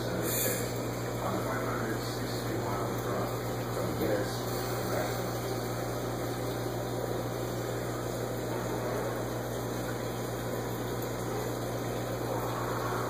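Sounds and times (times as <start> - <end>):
aquarium equipment hum: 0.0 - 13.0
rushing water: 0.0 - 13.0.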